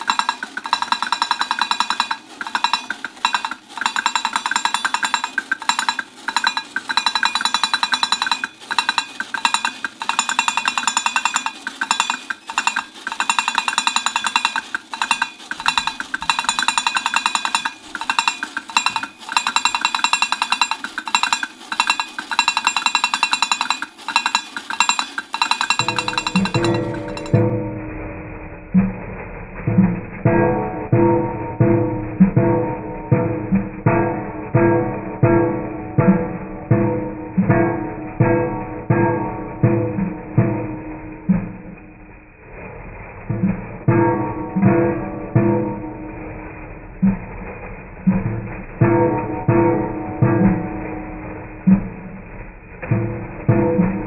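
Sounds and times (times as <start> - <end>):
toy tapping tin bongo drums: 0.0 - 28.1, 28.8 - 41.9, 43.3 - 54.0.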